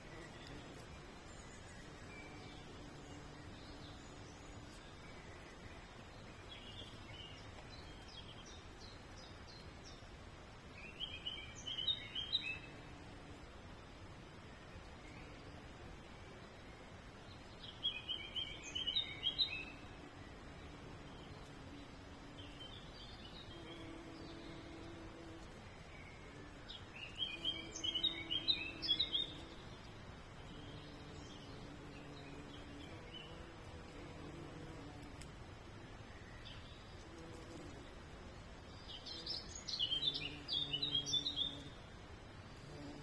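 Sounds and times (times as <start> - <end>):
songbird chirping: 0.0 - 43.0.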